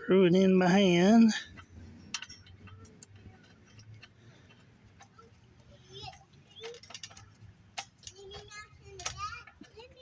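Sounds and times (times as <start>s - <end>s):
light metal clicks and ticks: 1.3s - 10.0s.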